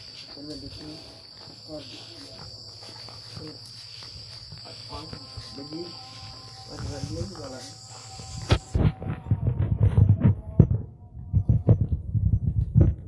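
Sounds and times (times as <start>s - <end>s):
crickets trilling: 0.0s - 12.0s
faint voices murmuring: 0.1s - 10.9s.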